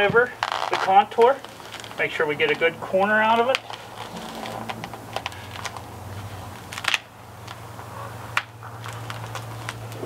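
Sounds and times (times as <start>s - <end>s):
tape clicking and crinkling: 0.0s - 2.7s, 3.4s - 10.0s.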